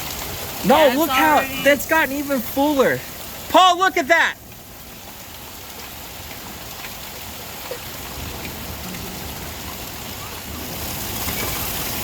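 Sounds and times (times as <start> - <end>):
heavy rain pouring: 0.0 - 12.0
raindrop hits: 0.0 - 12.0.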